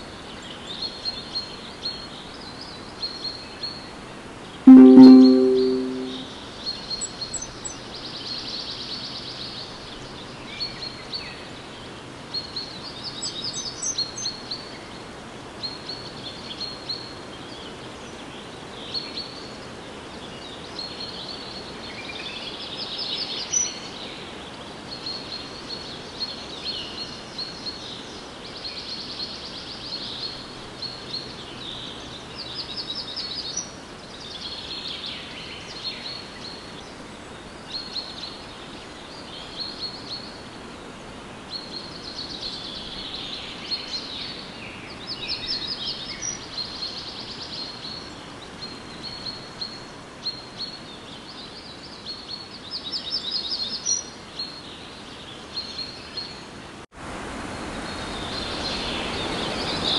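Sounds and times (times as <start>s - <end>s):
steady background hiss: 7.0s - 59.9s.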